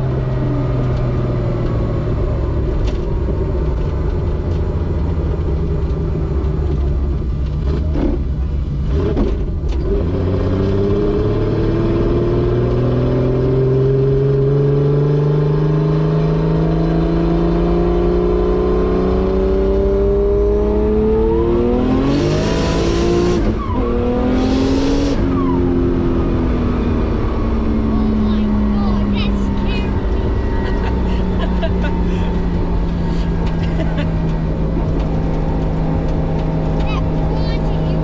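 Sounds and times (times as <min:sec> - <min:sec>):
turbocharged car engine accelerating: 0:00.0 - 0:38.0.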